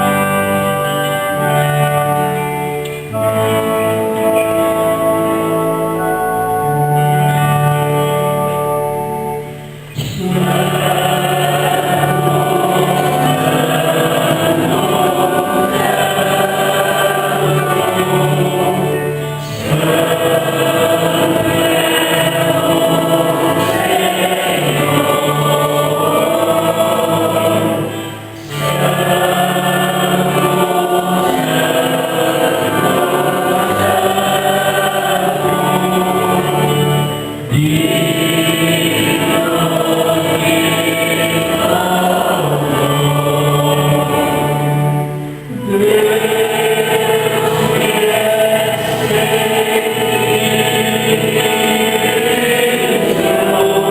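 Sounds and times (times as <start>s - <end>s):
choir singing a hymn: 0.0s - 53.9s
instrumental accompaniment: 0.0s - 53.9s.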